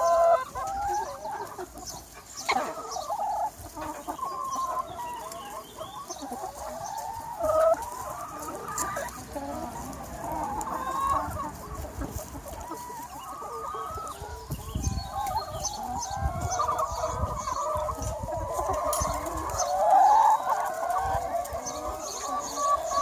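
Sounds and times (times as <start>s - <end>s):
hens clucking: 0.0s - 23.0s.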